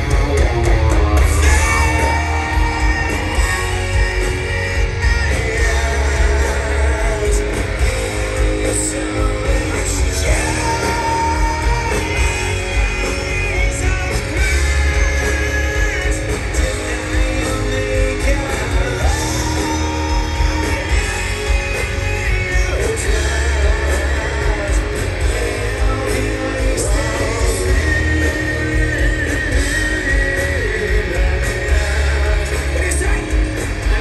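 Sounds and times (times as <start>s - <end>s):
bass: 0.0s - 34.0s
drums: 0.0s - 34.0s
electric guitar: 0.0s - 34.0s
person singing: 0.0s - 34.0s.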